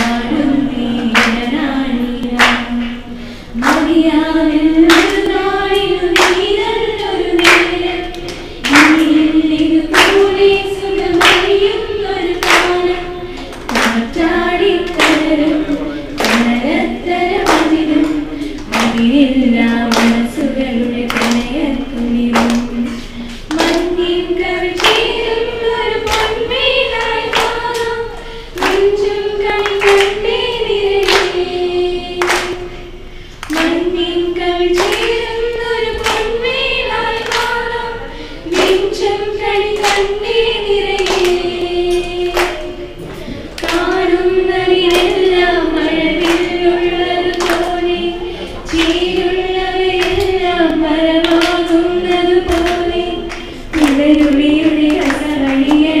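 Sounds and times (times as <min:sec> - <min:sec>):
girls singing in unison: 0:00.0 - 0:56.0.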